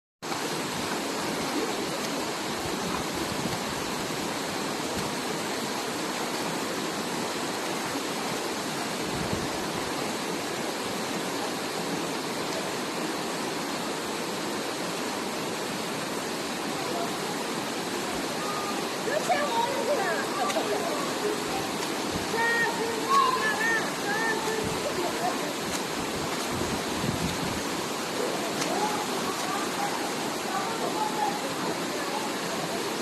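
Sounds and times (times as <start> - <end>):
stream water rushing: 0.2 - 33.0.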